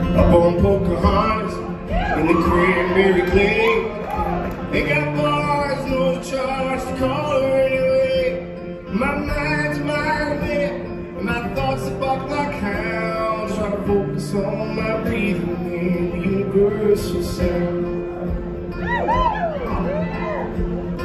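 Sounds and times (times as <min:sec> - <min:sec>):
man singing: 0:00.0 - 0:18.5
acoustic guitar playing: 0:00.0 - 0:21.0.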